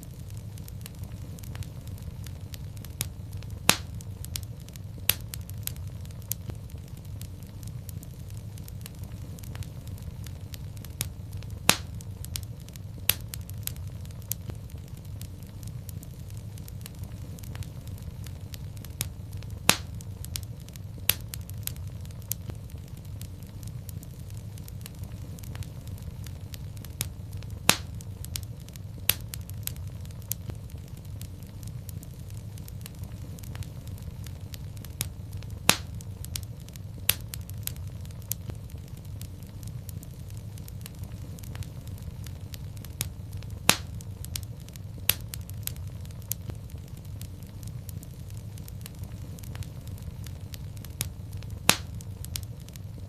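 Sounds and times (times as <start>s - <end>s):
loud fire pops: 0.0s - 53.0s
low steady rumble: 0.0s - 53.0s
wood fire crackling: 0.0s - 53.0s.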